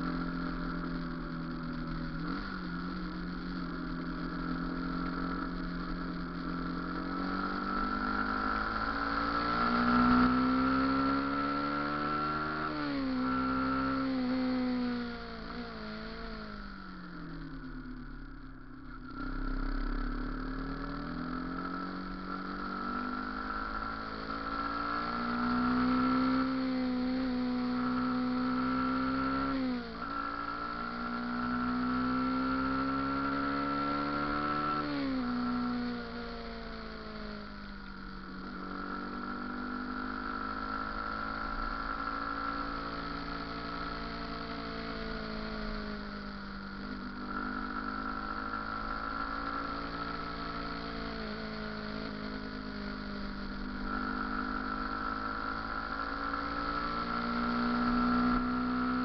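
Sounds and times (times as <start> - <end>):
motorcycle engine revving: 0.0 - 59.0
steady high whine: 0.0 - 59.0.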